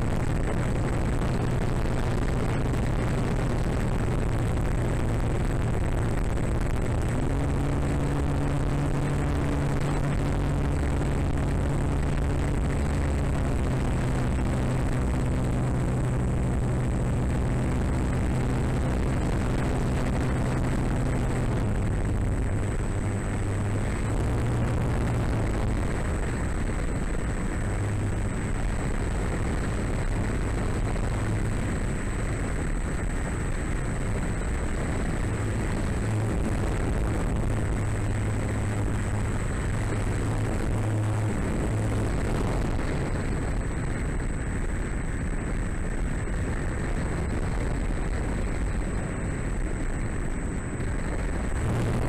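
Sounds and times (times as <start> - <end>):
high-pitched whine: 0.0 - 52.0
wind rushing over camera: 0.0 - 52.0.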